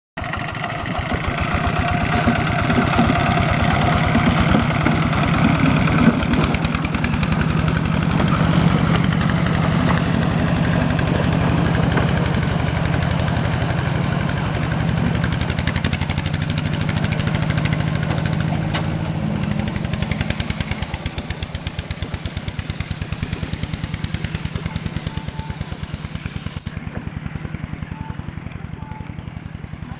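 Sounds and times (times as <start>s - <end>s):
tractor engine chugging: 0.2s - 29.9s.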